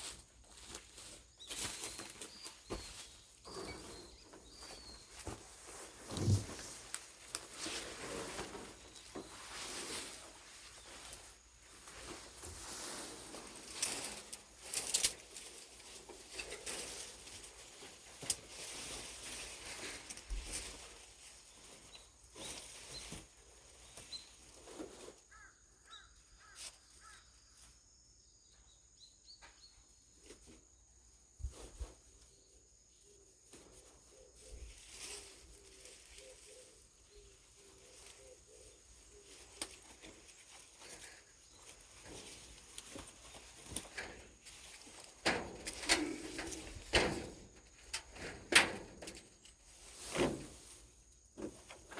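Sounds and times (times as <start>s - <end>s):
cloth netting rustling and scraping: 0.0s - 25.6s, 33.7s - 51.9s.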